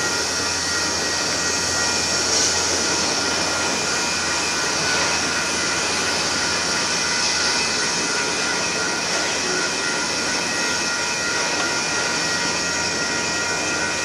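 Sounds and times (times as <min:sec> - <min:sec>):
steel wheels rumbling on rails: 0:00.0 - 0:14.0.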